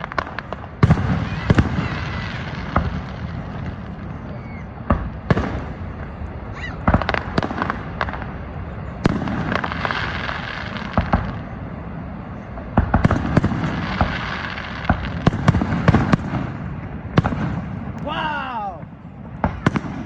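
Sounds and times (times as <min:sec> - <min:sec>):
fireworks bangs: 0:00.0 - 0:20.0
fireworks crackling: 0:00.0 - 0:20.0.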